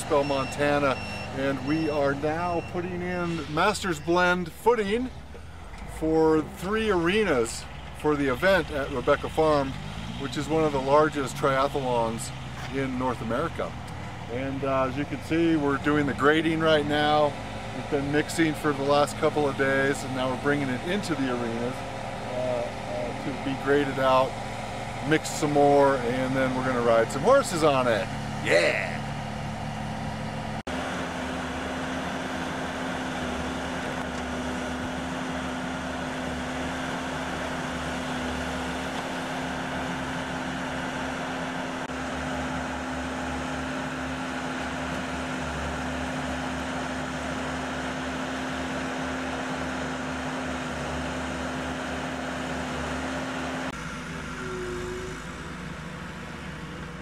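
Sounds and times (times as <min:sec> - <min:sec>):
heavy machinery engine running: 0:00.0 - 0:57.0.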